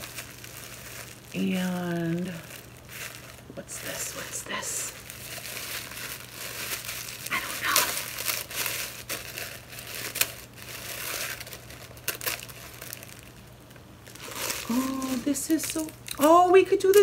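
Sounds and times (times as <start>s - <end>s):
tissue paper crinkling: 0.0s - 17.0s.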